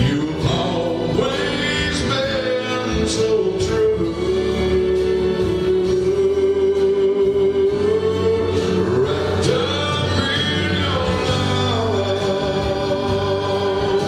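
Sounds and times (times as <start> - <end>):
gospel singing: 0.0 - 14.0
musical accompaniment: 0.0 - 14.0.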